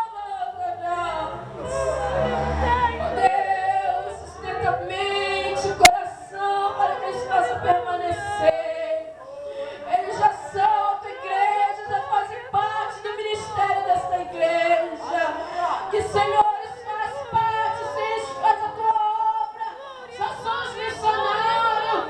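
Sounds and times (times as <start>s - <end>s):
congregation singing: 0.0s - 22.0s.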